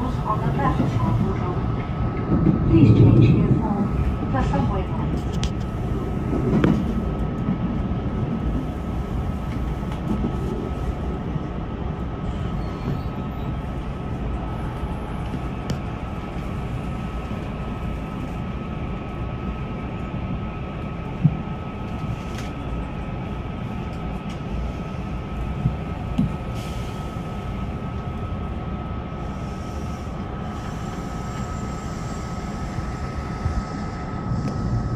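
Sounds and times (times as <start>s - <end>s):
train rumble: 0.0s - 34.9s.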